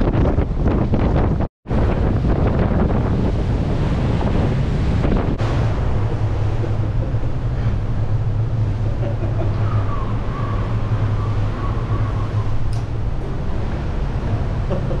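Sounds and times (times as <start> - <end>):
ship engines droning: 1.7 - 15.0.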